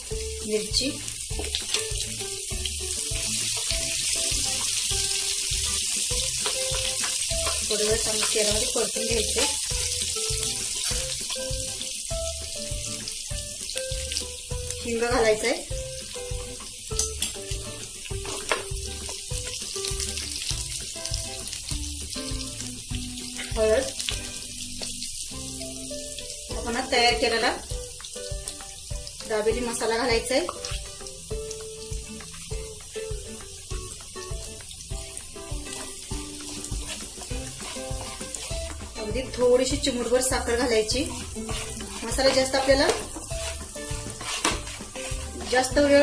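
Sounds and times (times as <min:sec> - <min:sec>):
background music with steady beat: 0:00.0 - 0:46.0
spices sizzling in hot oil: 0:00.0 - 0:46.0.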